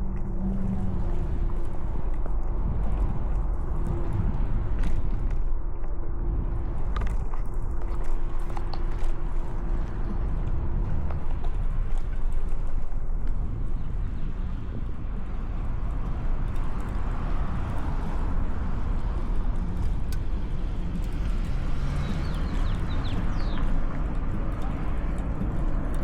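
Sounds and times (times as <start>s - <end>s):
road noise: 0.0s - 26.0s
wind buffeting the microphone: 0.0s - 26.0s.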